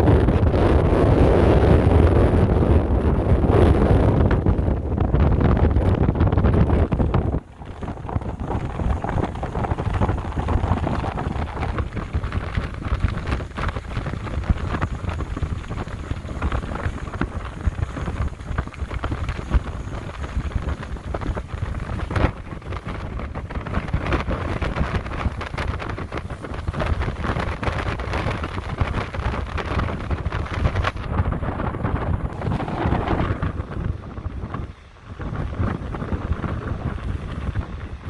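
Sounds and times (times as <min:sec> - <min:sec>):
gusty wind on microphone: 0:00.0 - 0:38.0.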